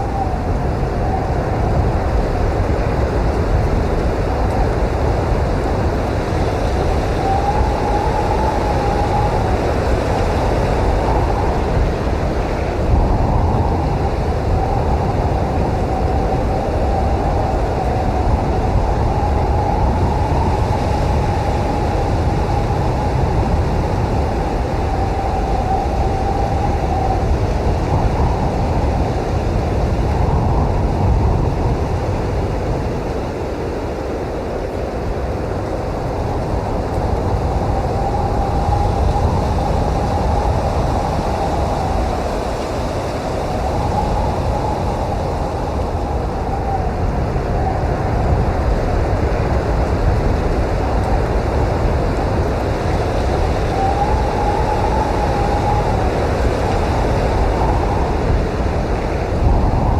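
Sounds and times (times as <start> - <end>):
blizzard wind blowing hard: 0.0 - 59.9
wavering wind whistle: 0.0 - 59.9.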